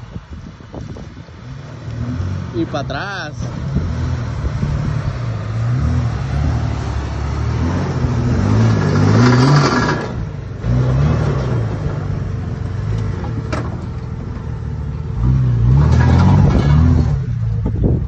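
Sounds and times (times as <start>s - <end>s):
off-road vehicle engine revving: 0.8s - 18.0s.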